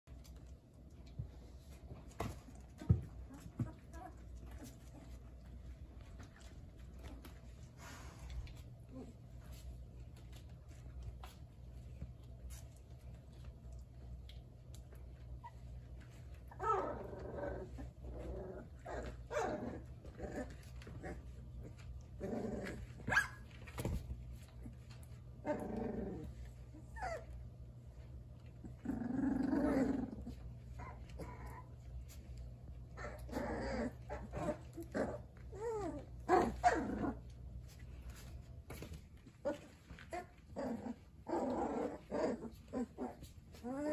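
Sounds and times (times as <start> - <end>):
puppies growling and yipping: 1.0 - 11.4, 12.5 - 43.9.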